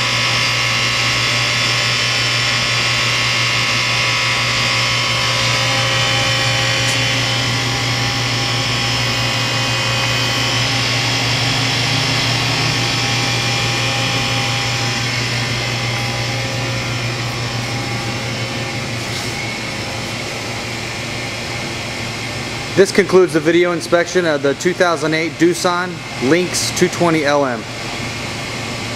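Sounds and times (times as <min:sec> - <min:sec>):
machine hum with whining tones: 0:00.0 - 0:28.9.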